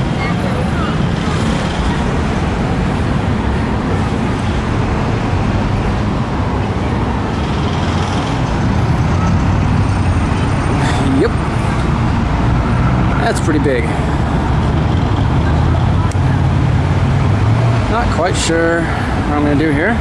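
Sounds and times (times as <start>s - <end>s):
cars and buses passing: 0.0s - 20.0s.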